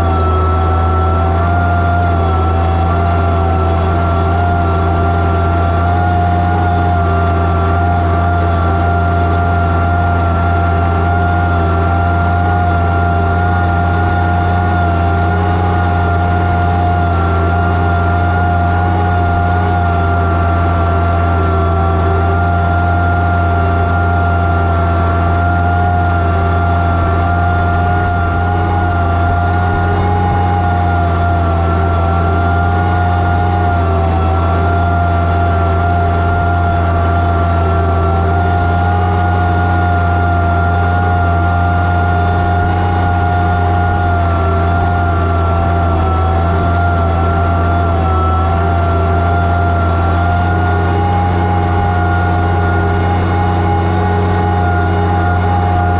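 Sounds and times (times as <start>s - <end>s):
steady high whine: 0.0s - 55.9s
tractor engine running: 0.0s - 55.9s.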